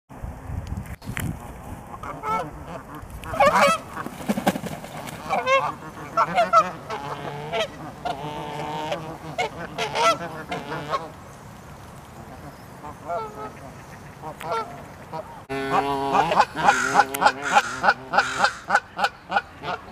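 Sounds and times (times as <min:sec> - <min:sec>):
geese honking: 0:01.9 - 0:04.2, 0:04.9 - 0:11.2, 0:12.2 - 0:19.9.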